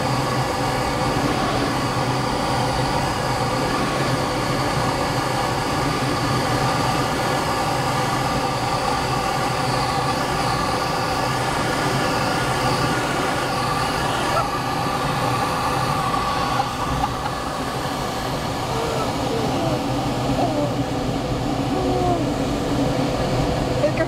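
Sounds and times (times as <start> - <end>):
airflow rushing in cockpit: 0.0 - 24.0.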